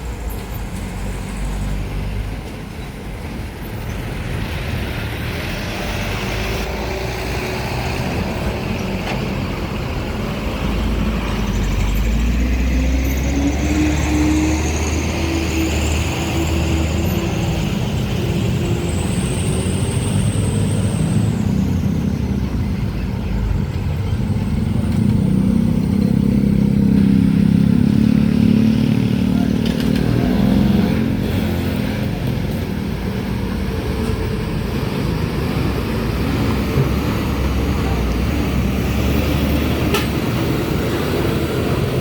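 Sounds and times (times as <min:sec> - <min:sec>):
road traffic: 0:00.0 - 0:42.0
truck diesel engine passing: 0:03.1 - 0:42.0.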